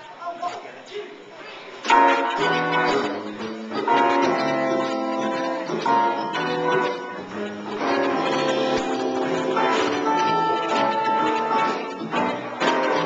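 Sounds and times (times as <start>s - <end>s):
live band playing: 1.8s - 13.0s
electric guitar chords: 1.9s - 13.0s.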